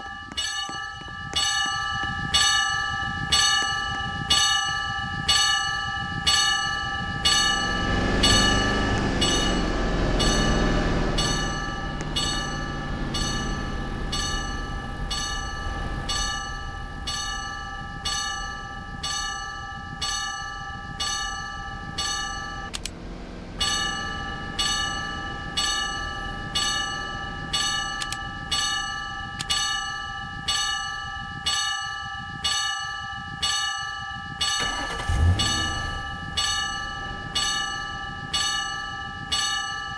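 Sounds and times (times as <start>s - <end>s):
level crossing bell ringing: 0.0s - 39.9s
passing train rumbling: 2.8s - 32.8s, 34.6s - 39.9s.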